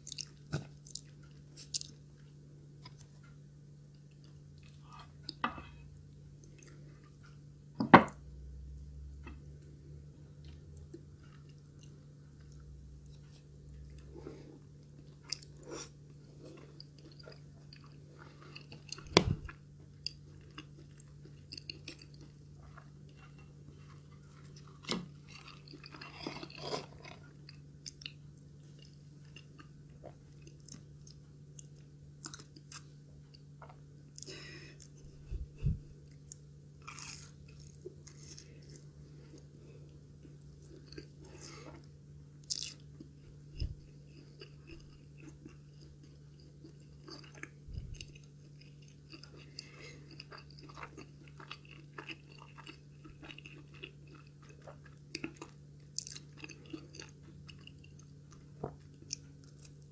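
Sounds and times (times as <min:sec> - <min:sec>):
chewing crispy food: 0:00.0 - 0:07.6, 0:08.8 - 0:59.9
steady low hum: 0:00.0 - 0:59.9.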